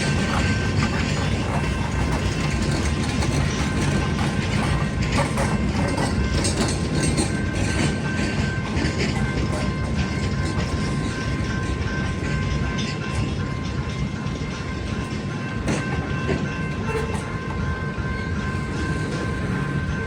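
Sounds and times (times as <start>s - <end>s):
rail clicks: 0.0s - 20.0s
train wheels rumbling on rails: 0.0s - 20.0s.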